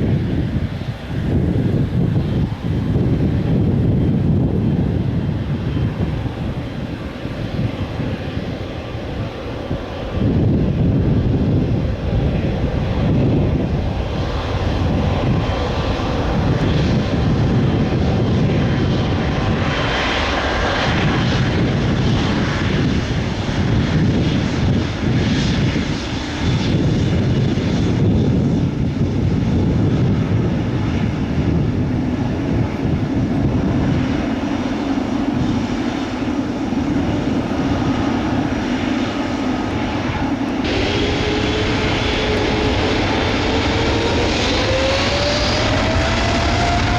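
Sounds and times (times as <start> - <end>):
jet engine rumble on takeoff: 0.0 - 46.9.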